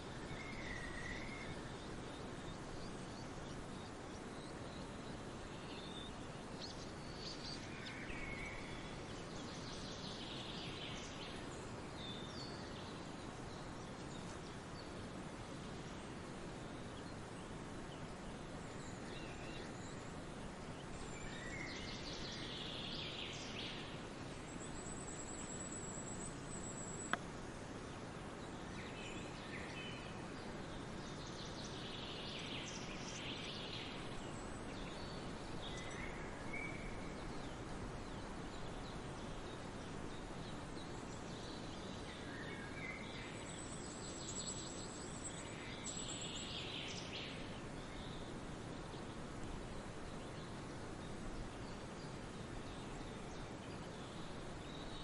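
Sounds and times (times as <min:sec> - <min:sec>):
songbirds calling: 0:00.0 - 0:55.0.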